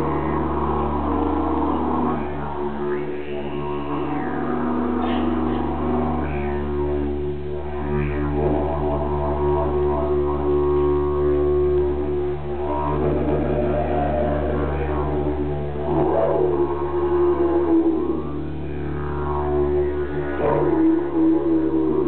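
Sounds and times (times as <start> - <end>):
didgeridoo drone: 0.0 - 22.0.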